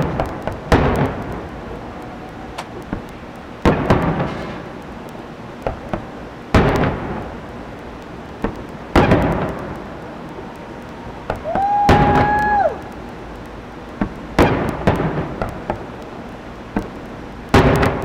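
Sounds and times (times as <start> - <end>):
fireworks booming: 0.0 - 18.0
fireworks pops and crackles: 0.0 - 18.0.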